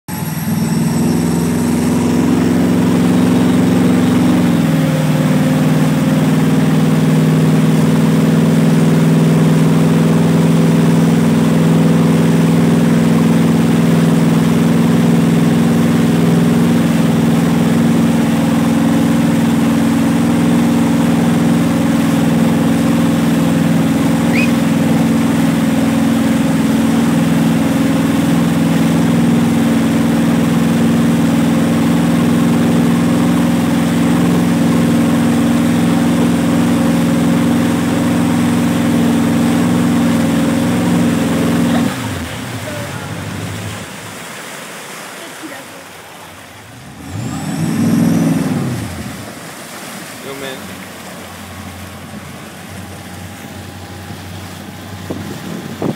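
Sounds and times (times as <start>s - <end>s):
boat motor running under load: 0.1s - 55.9s
water rushing in wake: 0.1s - 55.9s.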